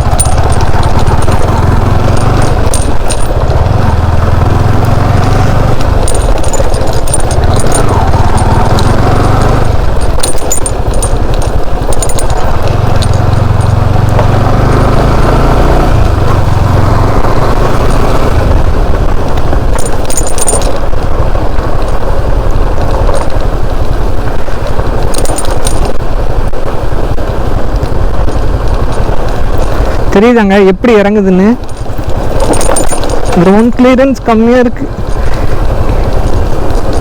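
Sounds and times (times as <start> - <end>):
crackles and rattles: 0.0 - 37.0
motorcycle engine running: 0.0 - 37.0
road and wind rumble: 0.0 - 37.0.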